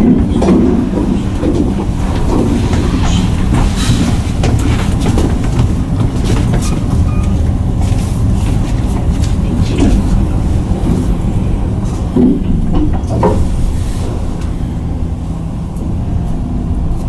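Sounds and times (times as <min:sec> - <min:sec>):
elevator low rumble: 0:00.0 - 0:17.0.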